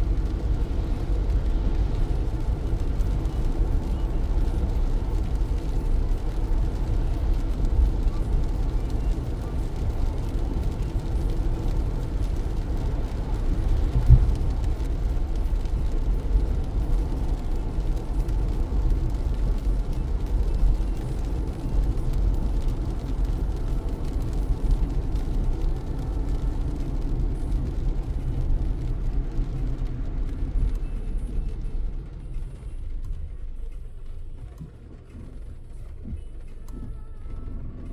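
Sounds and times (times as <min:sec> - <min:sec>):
car driving on wet road: 0:00.0 - 0:37.9
heavy rain: 0:00.0 - 0:37.9.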